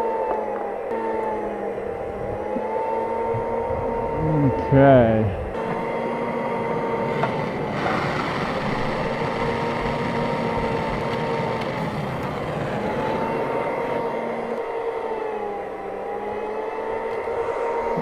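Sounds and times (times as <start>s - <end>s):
machine hum with wavering whine: 0.0s - 18.0s.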